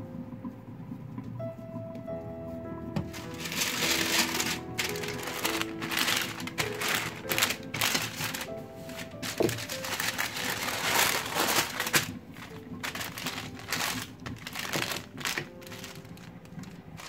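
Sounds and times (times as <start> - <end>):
parchment paper crinkling: 3.0 - 17.0.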